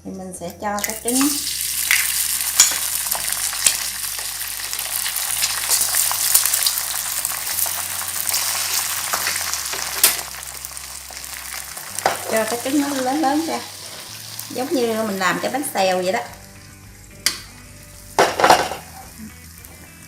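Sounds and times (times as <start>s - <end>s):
egg sizzling in a pan: 0.8s - 19.7s.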